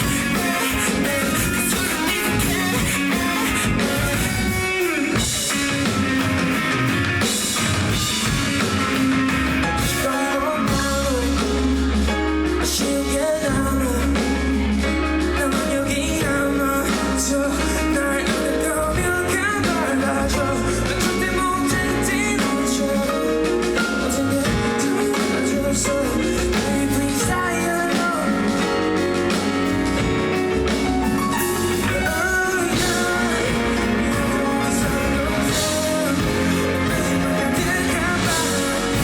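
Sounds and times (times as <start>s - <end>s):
heavy held bass: 0.0s - 39.0s
live rock band playing: 0.0s - 39.0s
wavering melodic lead line: 0.0s - 39.0s.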